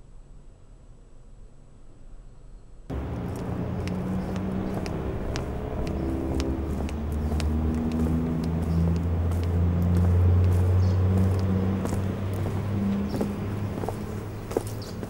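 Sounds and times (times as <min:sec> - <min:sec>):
footsteps on pavement: 0:02.9 - 0:15.0
traffic rumble: 0:02.9 - 0:15.0.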